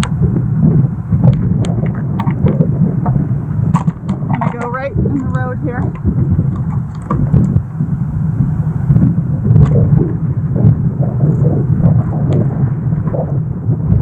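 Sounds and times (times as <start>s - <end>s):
road and wind noise in car: 0.0s - 14.0s.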